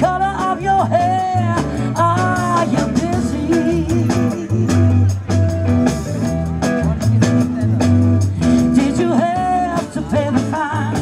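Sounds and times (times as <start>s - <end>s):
bass guitar: 0.0s - 11.0s
drum kit: 0.0s - 11.0s
electric guitar: 0.0s - 11.0s.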